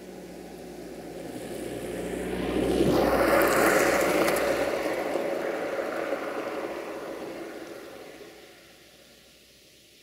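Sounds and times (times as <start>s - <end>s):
vehicle passing by: 0.0s - 8.7s.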